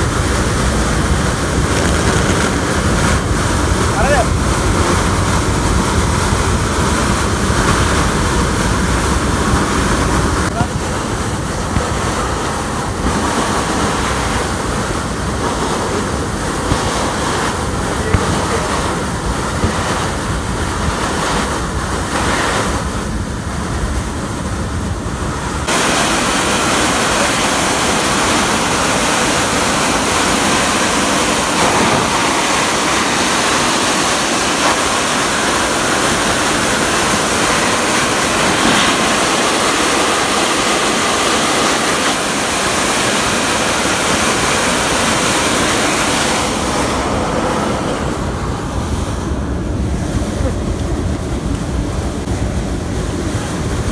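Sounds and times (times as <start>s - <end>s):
air rushing out of vents: 0.0s - 53.9s.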